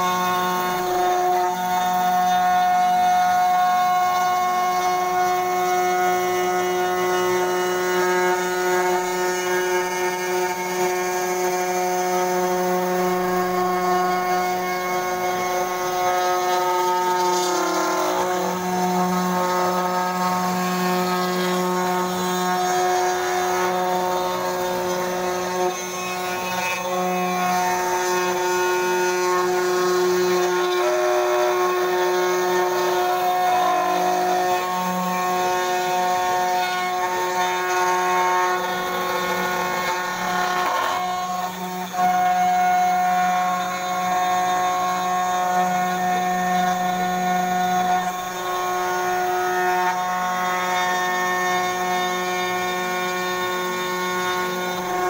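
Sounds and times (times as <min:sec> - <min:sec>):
router spindle whining while cutting: 0:00.0 - 0:55.0.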